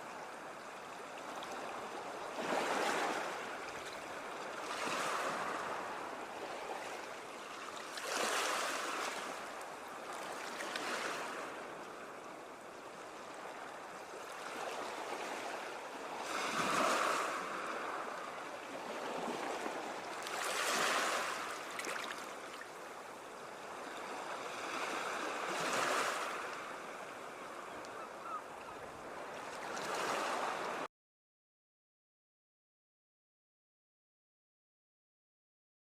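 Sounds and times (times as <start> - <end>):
ocean waves breaking: 1.2 - 30.9.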